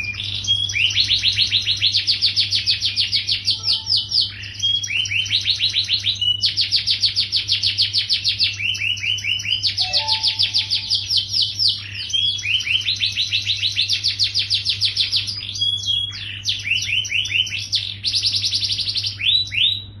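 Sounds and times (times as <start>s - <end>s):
canary singing trills: 0.0s - 19.9s.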